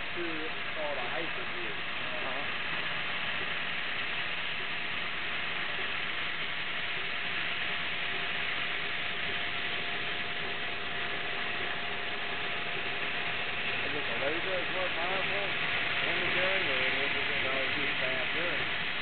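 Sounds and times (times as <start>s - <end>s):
laser cutter hissing: 0.0s - 19.0s.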